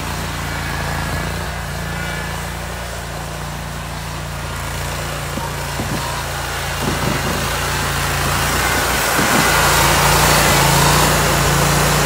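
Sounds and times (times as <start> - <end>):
mower engine running: 0.0 - 12.0.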